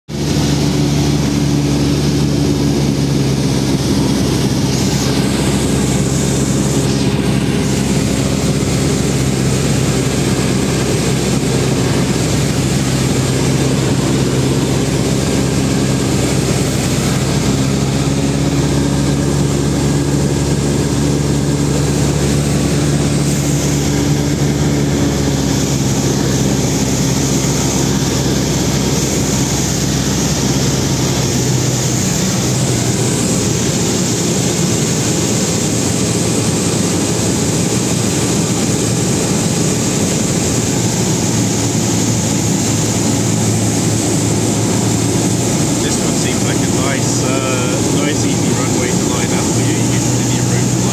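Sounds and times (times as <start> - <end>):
light aircraft engine humming: 0.1 - 50.9.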